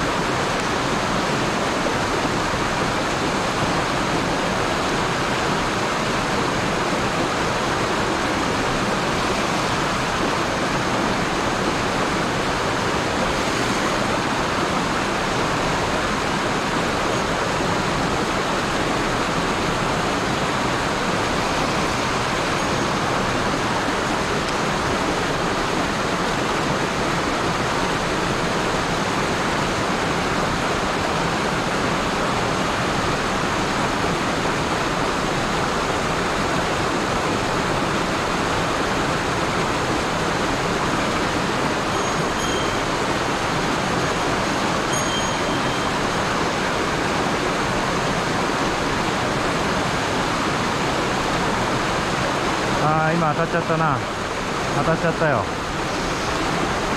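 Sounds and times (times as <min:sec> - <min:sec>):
stream rushing over boulders: 0:00.0 - 0:56.9.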